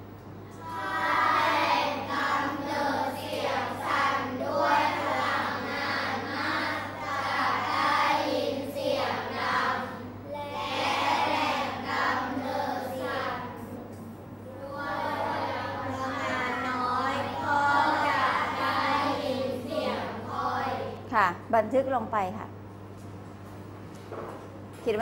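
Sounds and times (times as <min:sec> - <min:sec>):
children reading aloud in unison: 0:00.6 - 0:21.1.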